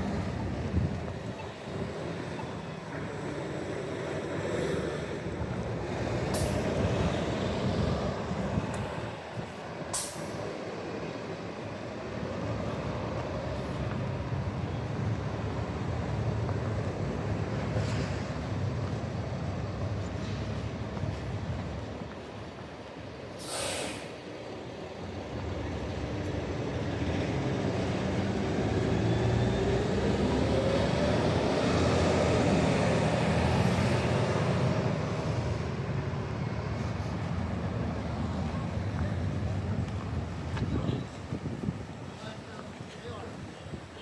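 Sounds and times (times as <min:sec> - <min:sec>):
heavy vehicle engine rumbling: 0:00.0 - 0:44.0.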